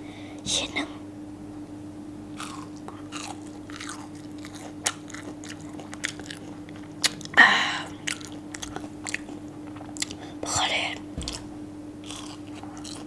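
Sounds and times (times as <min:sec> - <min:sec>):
faint steady hum: 0:00.0 - 0:13.0
crunchy chewing: 0:02.3 - 0:13.0.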